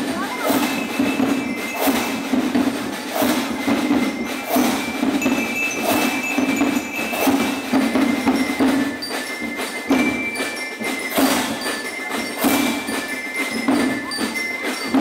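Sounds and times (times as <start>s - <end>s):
drums beating march rhythm: 0.0s - 15.0s
bell-like metallic tones: 0.2s - 15.0s.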